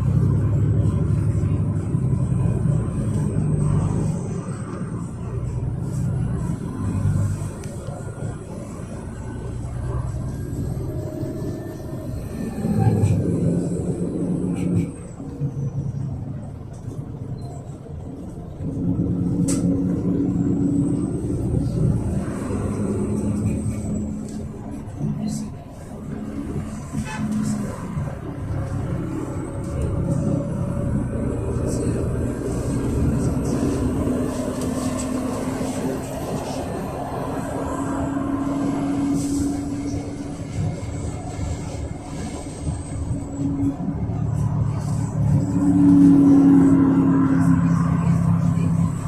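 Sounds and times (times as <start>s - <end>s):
bus engine rumble: 0.0s - 49.0s.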